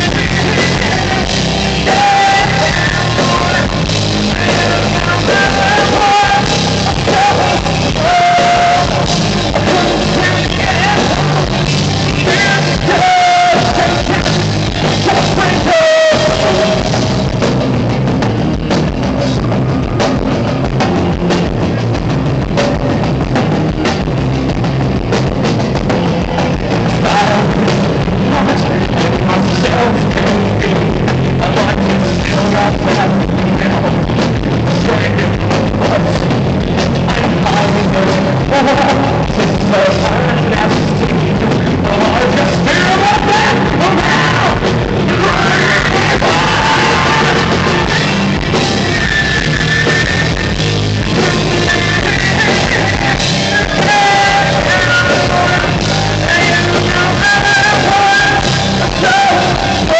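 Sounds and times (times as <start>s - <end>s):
person singing long notes: 0.0s - 17.4s, 26.3s - 59.9s
rock band playing: 0.0s - 59.9s.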